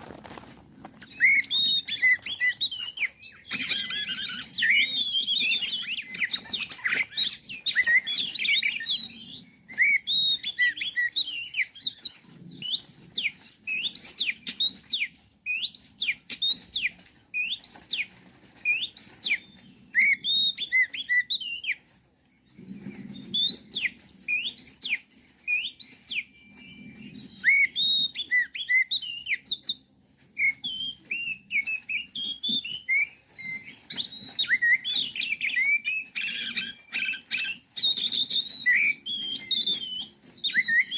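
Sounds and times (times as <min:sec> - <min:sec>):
bird singing whistled notes: 0:00.5 - 0:21.8, 0:22.5 - 0:40.9.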